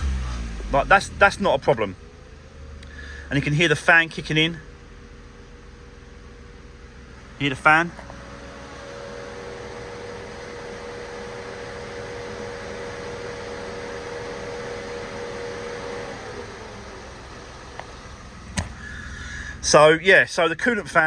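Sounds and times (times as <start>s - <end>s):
car engine idling: 0.0s - 21.0s
radiator cooling fan running: 1.2s - 21.0s.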